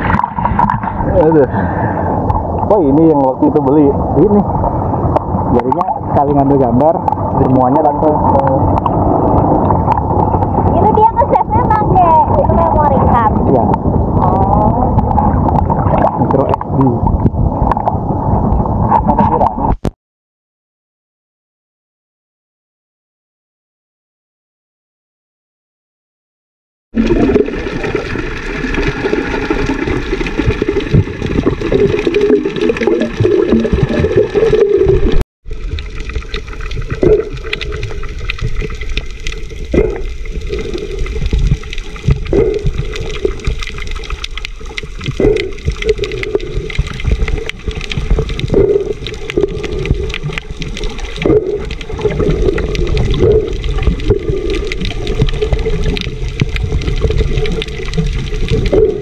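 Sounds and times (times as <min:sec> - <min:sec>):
underwater rushing and bubbling: 0:00.0 - 0:19.9, 0:27.0 - 0:59.0.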